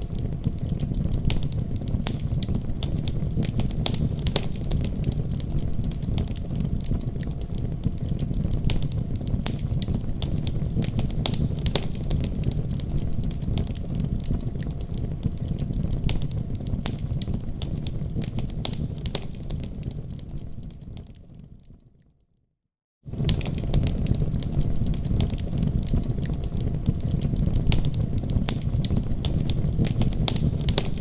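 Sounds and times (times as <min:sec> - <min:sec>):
fire crackling and popping: 0:00.0 - 0:22.0, 0:23.1 - 0:31.0
low rumble of flames: 0:00.0 - 0:22.0, 0:23.1 - 0:31.0.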